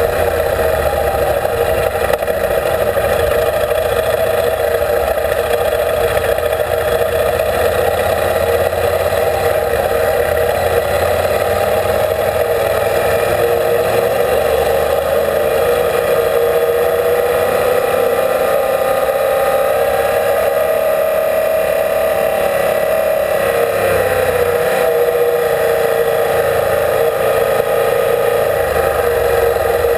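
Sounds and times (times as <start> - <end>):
motorcycle engine droning: 0.0 - 29.9.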